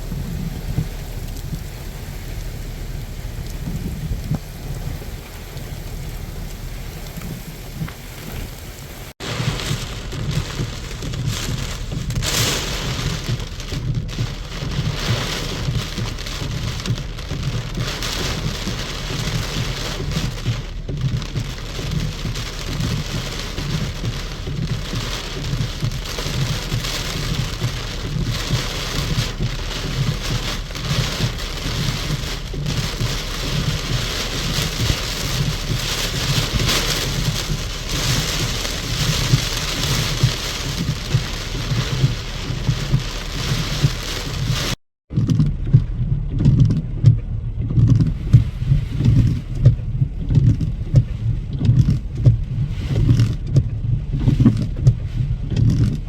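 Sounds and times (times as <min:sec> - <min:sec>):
heavy rain falling: 0:00.0 - 0:56.0
low thunder rumble: 0:00.0 - 0:56.0.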